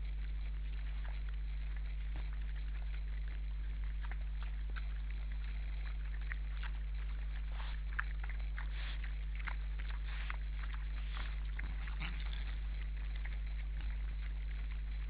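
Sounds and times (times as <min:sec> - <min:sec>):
boars crunching and chewing: 0:00.0 - 0:15.0
low hum: 0:00.0 - 0:15.0.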